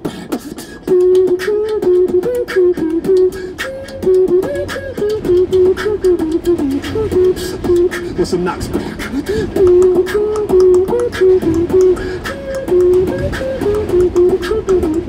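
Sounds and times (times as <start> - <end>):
hummed melody: 0.0 - 15.0
person beatboxing: 0.0 - 15.0.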